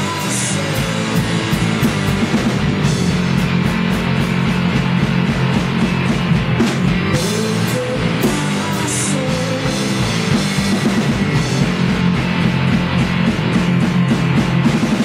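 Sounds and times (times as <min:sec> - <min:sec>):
driving drum kit: 0:00.0 - 0:15.0
electric guitars: 0:00.0 - 0:15.0.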